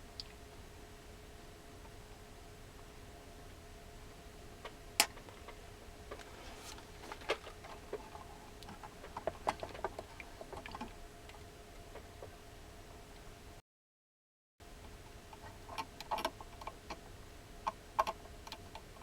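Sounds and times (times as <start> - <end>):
faint steady hum: 0.0 - 13.6, 14.6 - 19.0.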